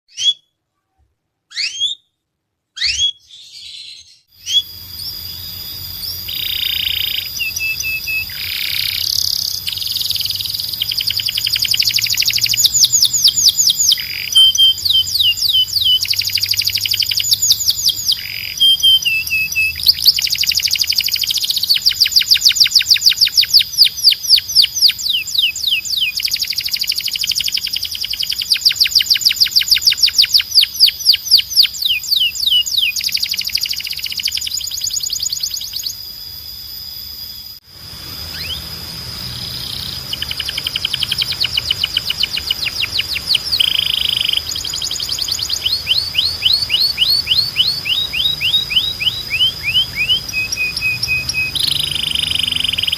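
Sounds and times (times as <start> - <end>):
canary singing: 0.1 - 0.6, 1.5 - 2.1, 2.8 - 36.4, 37.3 - 52.9.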